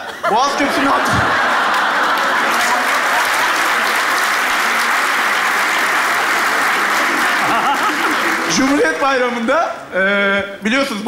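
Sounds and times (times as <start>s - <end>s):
audience applauding: 0.6s - 9.5s.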